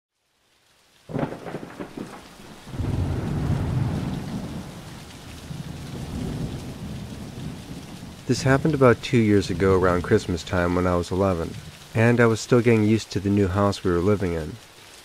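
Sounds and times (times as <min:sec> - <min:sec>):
rain pattering: 0:00.1 - 0:15.0
thunder rumbling: 0:01.1 - 0:14.6.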